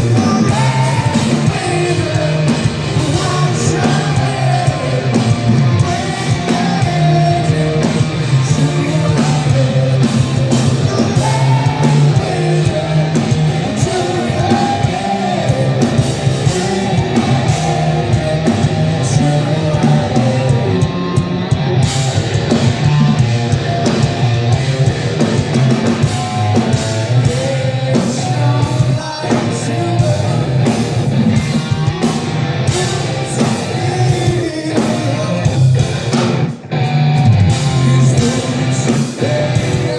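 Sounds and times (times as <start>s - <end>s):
male lead vocal: 0.0s - 21.3s, 25.8s - 36.4s, 37.3s - 39.9s
live hard rock band: 0.0s - 39.9s.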